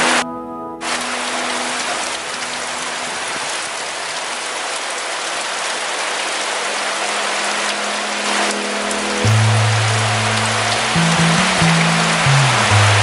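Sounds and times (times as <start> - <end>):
heavy rain falling: 0.8 - 13.0.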